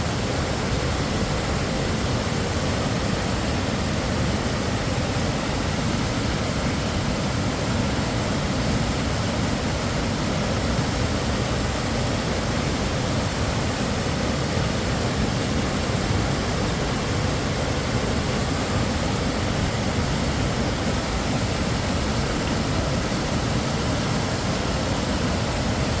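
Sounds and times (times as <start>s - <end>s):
whitewater rushing over rocks: 0.0s - 26.0s.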